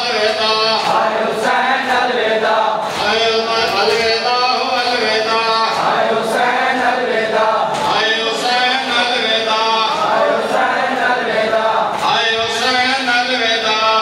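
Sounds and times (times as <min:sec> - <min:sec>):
man singing through a microphone: 0:00.0 - 0:14.0
men chanting in chorus: 0:00.0 - 0:14.0.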